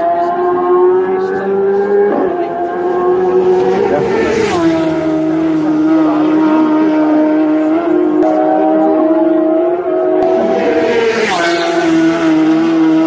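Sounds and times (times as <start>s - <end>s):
motorcycle engine passing at speed: 0.0s - 13.0s.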